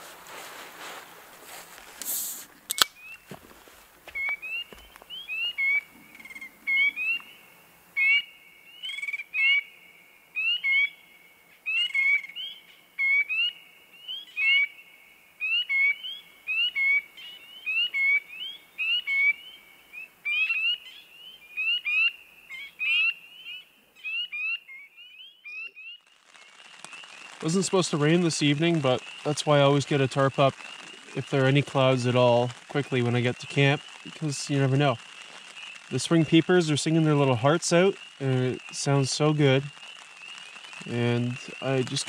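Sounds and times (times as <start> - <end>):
frogs peeping: 4.1 - 9.8, 11.6 - 42.0.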